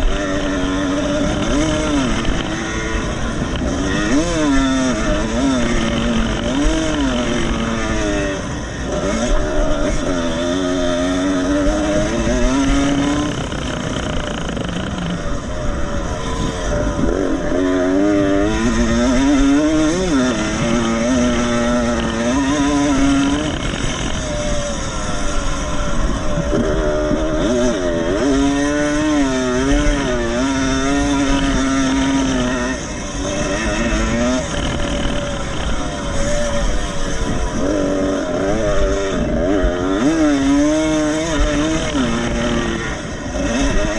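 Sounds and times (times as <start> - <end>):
distant engine drone: 0.0 - 43.9
motocross bikes revving: 0.0 - 43.9.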